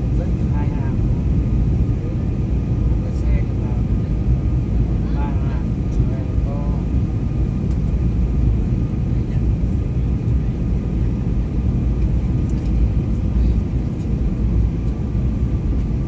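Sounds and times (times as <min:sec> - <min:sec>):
airliner engines and airflow rumble: 0:00.0 - 0:16.0.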